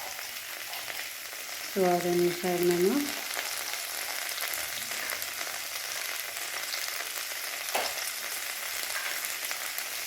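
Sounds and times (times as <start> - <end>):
food frying with sizzle: 0.0 - 10.0.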